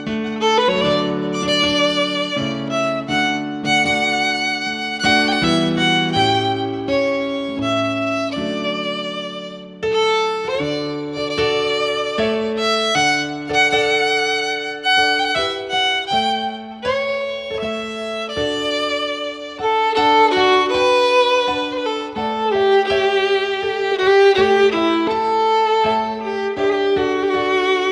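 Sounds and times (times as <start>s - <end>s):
violin melody: 0.0s - 27.9s.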